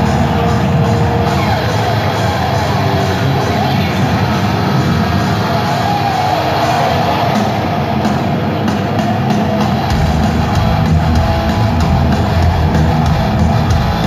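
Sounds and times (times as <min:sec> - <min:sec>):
distorted electric guitars: 0:00.0 - 0:14.0
pounding drum kit: 0:00.0 - 0:14.0.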